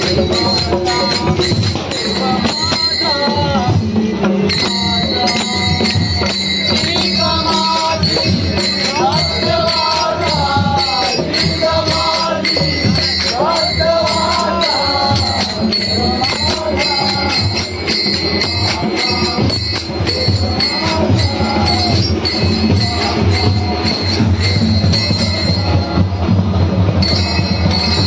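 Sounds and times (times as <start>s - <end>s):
brass hand cymbals clashing: 0.0s - 28.0s
men singing together: 0.0s - 28.0s.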